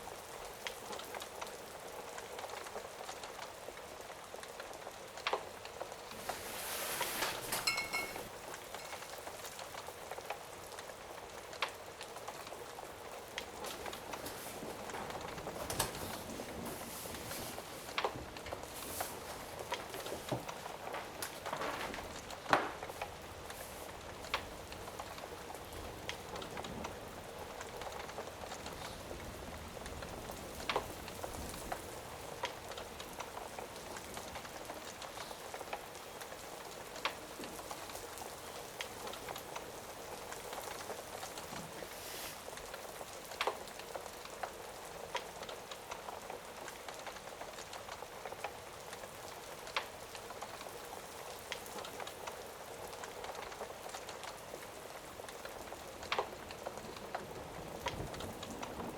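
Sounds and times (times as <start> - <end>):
rain hissing: 0.0 - 58.9
fire popping: 4.0 - 58.9.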